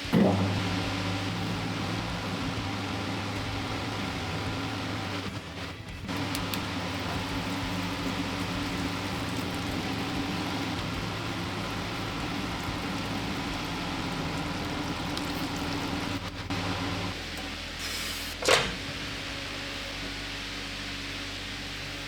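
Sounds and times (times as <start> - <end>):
metal lathe humming and hissing: 0.0 - 22.0.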